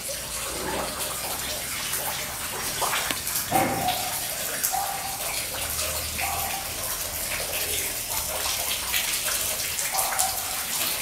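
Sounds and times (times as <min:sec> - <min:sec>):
running water splashing: 0:00.0 - 0:11.0.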